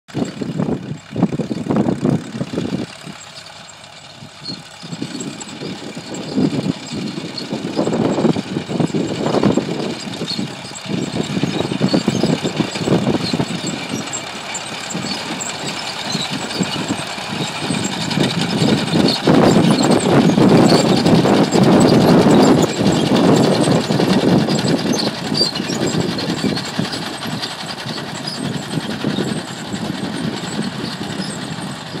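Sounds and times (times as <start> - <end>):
diesel tractor engine under load: 0.1 - 32.0.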